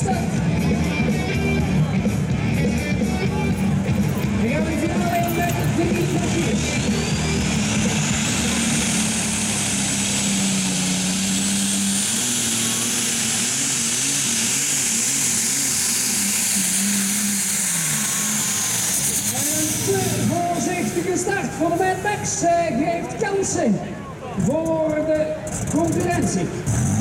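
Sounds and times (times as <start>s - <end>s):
high whine: 0.0s - 23.3s
tractor engine at full power: 0.0s - 27.0s.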